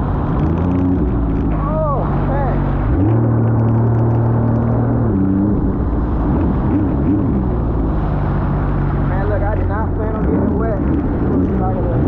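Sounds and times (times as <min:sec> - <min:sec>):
personal watercraft engine running: 0:00.0 - 0:12.0
rushing water: 0:00.0 - 0:12.0.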